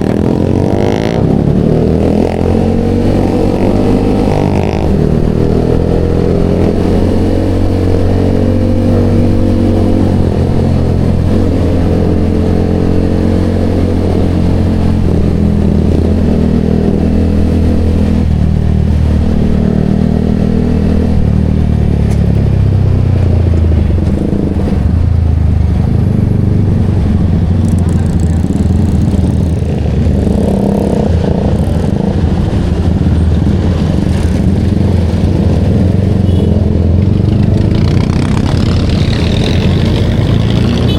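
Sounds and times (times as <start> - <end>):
motorcycle exhaust while riding: 0.0 - 40.9.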